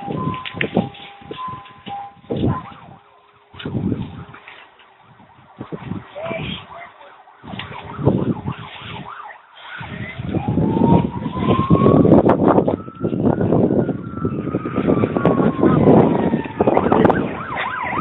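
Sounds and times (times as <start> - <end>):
siren wailing: 0.0 - 18.0.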